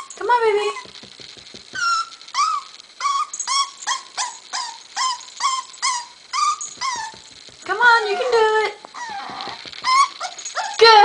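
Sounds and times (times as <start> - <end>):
puppy whimpering: 1.7 - 11.0.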